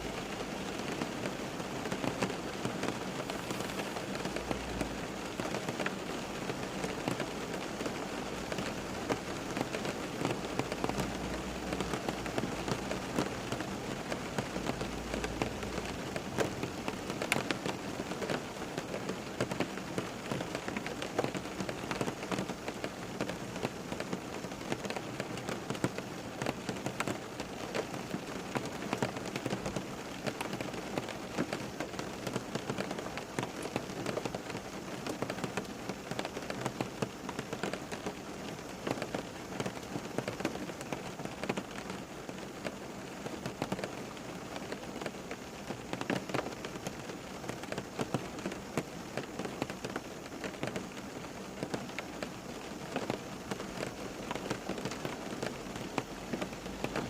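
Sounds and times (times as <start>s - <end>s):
rain on a hard surface: 0.0s - 57.0s.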